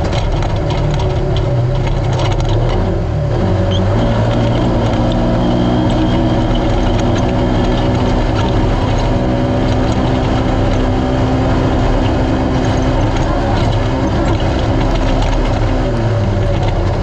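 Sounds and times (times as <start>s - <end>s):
rattles and clicks: 0.0s - 17.0s
utility vehicle engine running: 0.0s - 17.0s.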